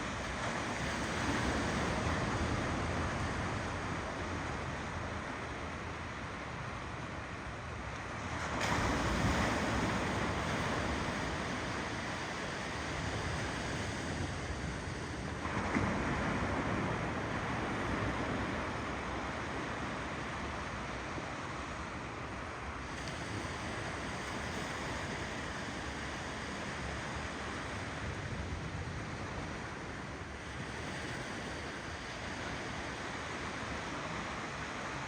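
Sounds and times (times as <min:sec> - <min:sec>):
ocean waves rolling in: 0:00.0 - 0:35.0.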